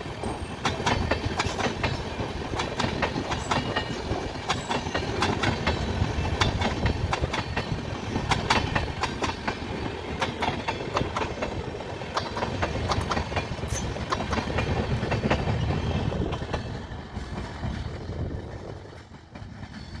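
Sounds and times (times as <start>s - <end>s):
train rumble: 0.0s - 20.0s
train wheels clattering over rail joints: 0.0s - 20.0s.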